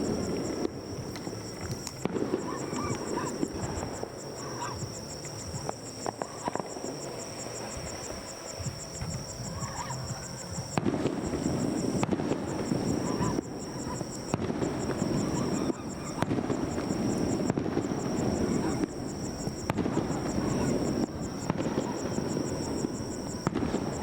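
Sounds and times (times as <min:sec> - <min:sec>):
distant fireworks pops and crackles: 0:00.0 - 0:24.0.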